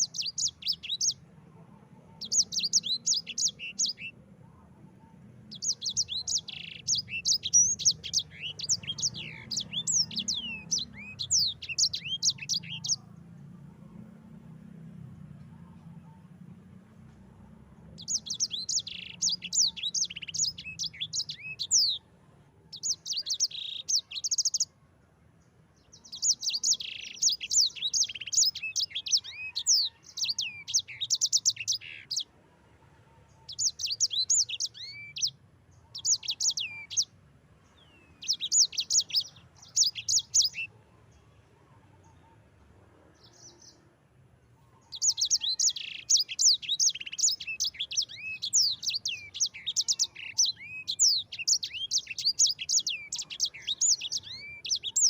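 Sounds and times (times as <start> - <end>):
songbird chirps and trills: 0.0 - 55.0.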